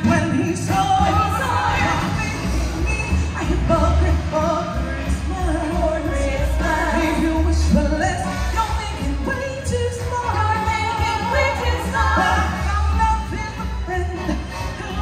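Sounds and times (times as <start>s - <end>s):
backing music with steady bass: 0.0s - 15.0s
woman singing into a microphone: 0.0s - 15.0s.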